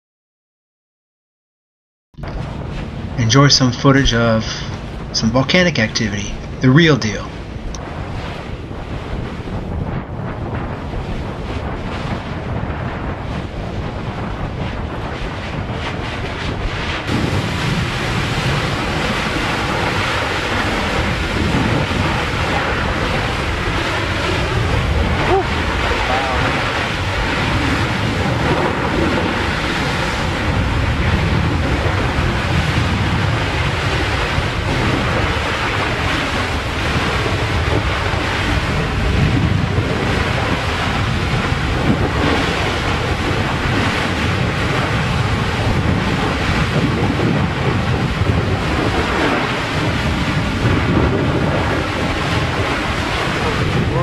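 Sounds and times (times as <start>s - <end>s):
lava vent rushing rumble: 2.2s - 54.0s
wind buffeting microphone: 2.2s - 54.0s.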